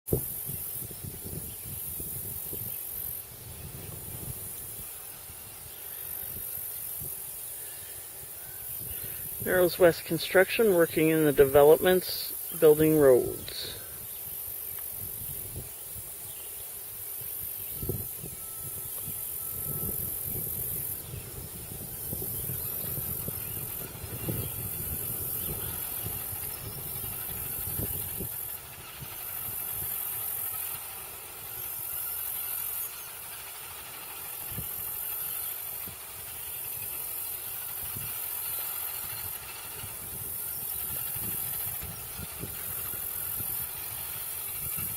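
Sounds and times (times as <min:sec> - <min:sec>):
heavy machinery engines rumbling: 0:00.2 - 0:44.9.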